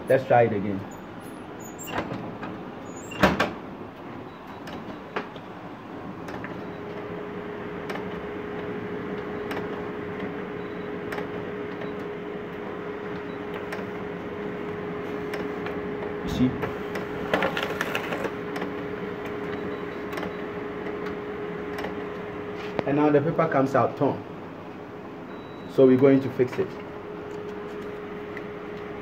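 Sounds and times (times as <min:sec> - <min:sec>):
photocopier motors humming: 0:03.8 - 0:29.0.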